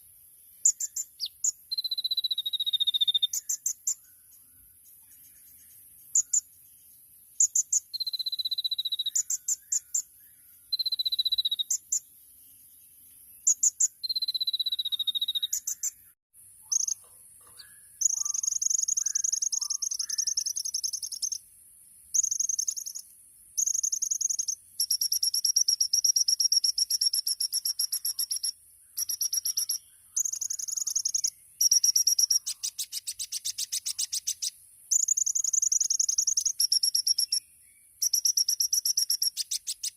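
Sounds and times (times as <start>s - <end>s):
bird singing high-pitched song: 0.0s - 21.5s, 22.1s - 39.9s.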